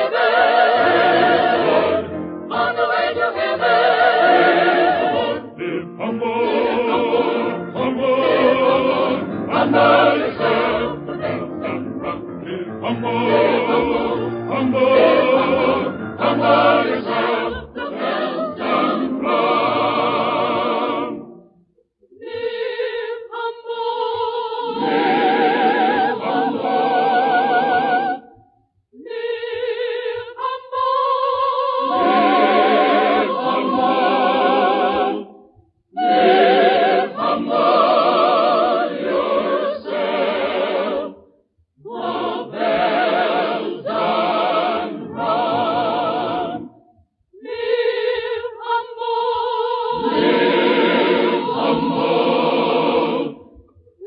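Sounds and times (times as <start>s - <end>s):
choir singing a hymn: 0.0s - 21.4s, 22.2s - 28.3s, 29.0s - 46.8s, 47.4s - 53.6s.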